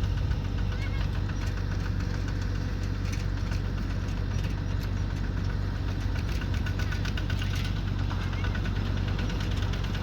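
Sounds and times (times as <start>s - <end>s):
combine harvester engine humming: 0.0s - 10.0s
light mechanical clatter: 0.0s - 10.0s.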